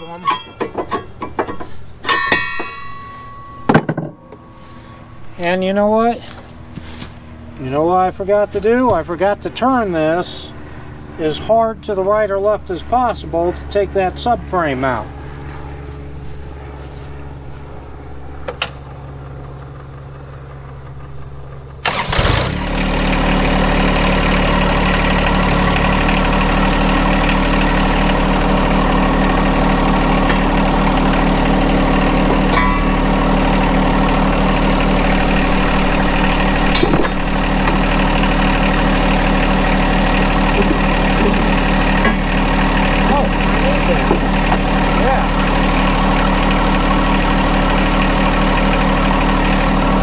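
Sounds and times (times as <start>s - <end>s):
tractor diesel engine starting and idling: 4.4s - 15.4s, 17.8s - 50.0s.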